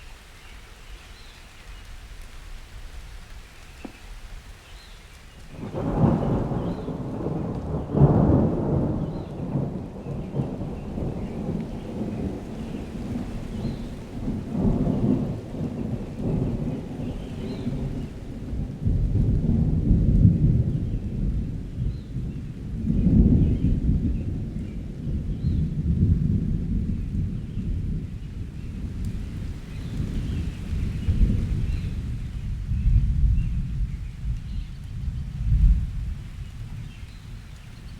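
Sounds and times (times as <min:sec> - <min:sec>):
steady rain: 0:00.0 - 0:37.9
rolling thunder: 0:05.5 - 0:37.9.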